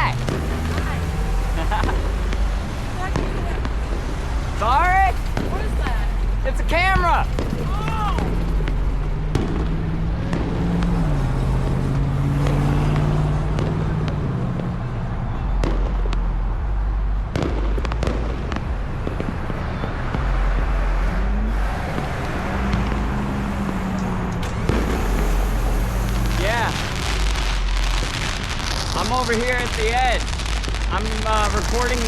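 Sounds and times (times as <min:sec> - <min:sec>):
firework pops and crackles: 0:00.0 - 0:14.9, 0:15.5 - 0:16.7, 0:17.3 - 0:20.2, 0:21.8 - 0:32.0
vehicle engines idling: 0:00.0 - 0:32.0.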